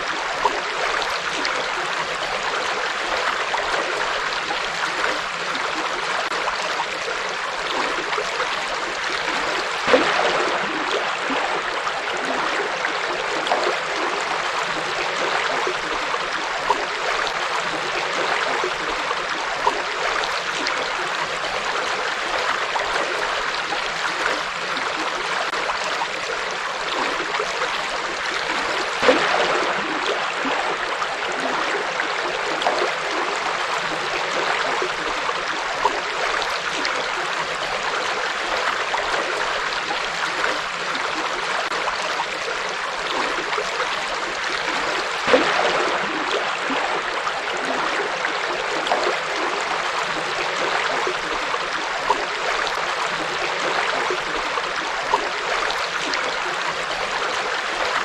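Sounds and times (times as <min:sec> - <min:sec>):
water splashing: 0:00.0 - 0:58.0.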